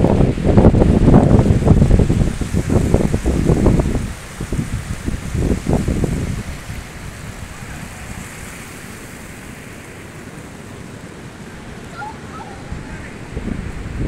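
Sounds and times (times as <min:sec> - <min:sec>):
ocean surf washing ashore: 0:00.0 - 0:14.0
wind rumbling on microphone: 0:00.0 - 0:14.0.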